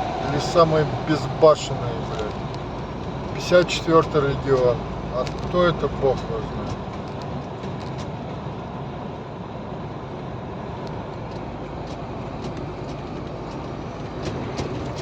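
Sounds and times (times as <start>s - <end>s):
truck engine and tyres on road: 0.0s - 15.0s.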